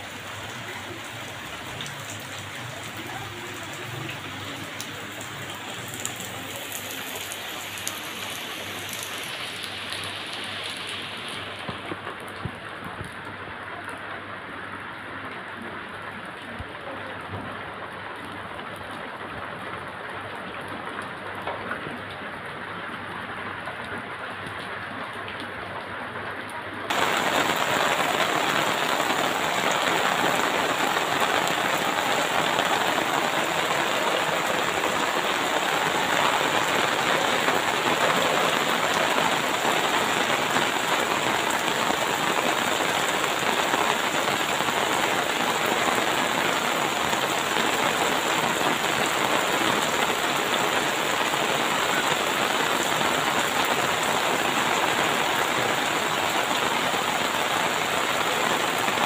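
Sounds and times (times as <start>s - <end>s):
heavy rain on rooftops: 0.0s - 59.0s
rain splashing into water: 0.0s - 59.0s.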